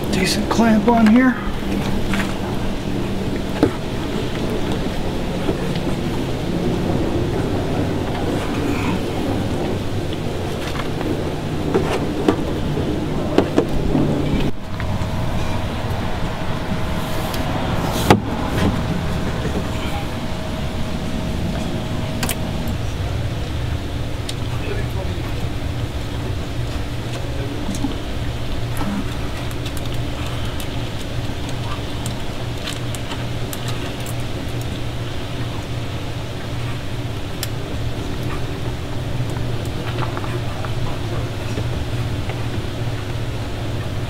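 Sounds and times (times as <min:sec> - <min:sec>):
background rumble: 0:00.0 - 0:44.0
faint hum: 0:00.0 - 0:44.0.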